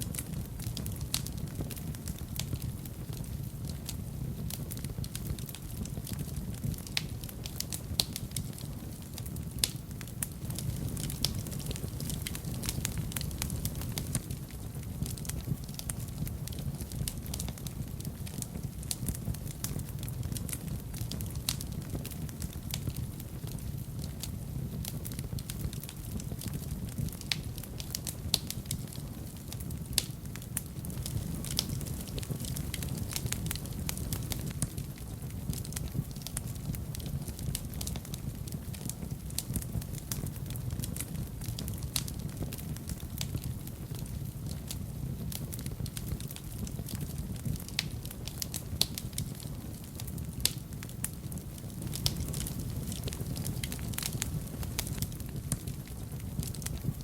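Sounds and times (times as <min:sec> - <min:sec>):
fire crackling and popping: 0:00.0 - 0:57.0
fire low rumble: 0:00.0 - 0:57.0.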